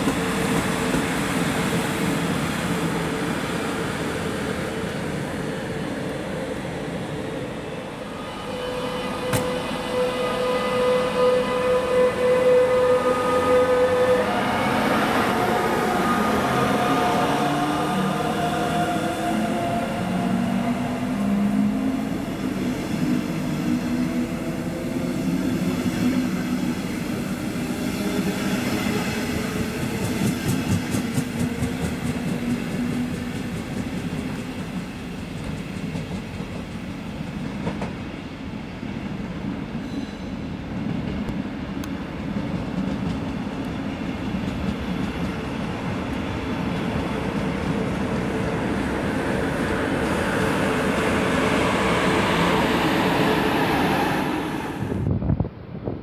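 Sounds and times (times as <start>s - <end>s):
train wheels rumbling: 0.0s - 7.4s, 8.4s - 55.3s
electric locomotive hum: 0.0s - 56.0s.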